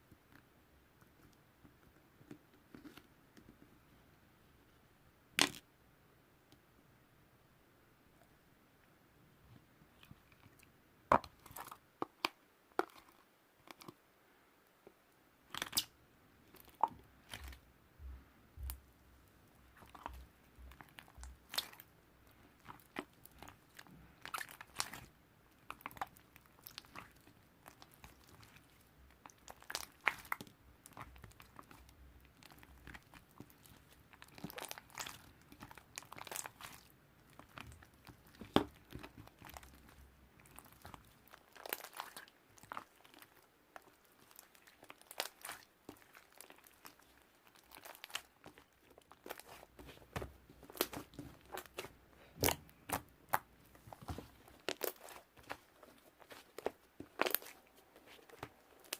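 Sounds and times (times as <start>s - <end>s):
slime squelching: 9.9s - 14.0s, 15.4s - 58.9s.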